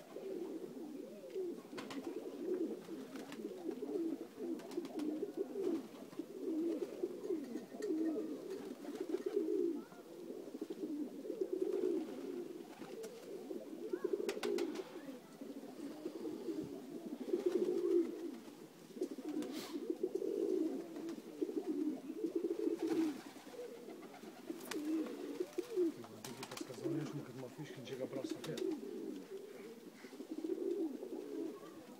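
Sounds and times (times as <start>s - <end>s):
pigeons cooing: 0.0s - 31.9s.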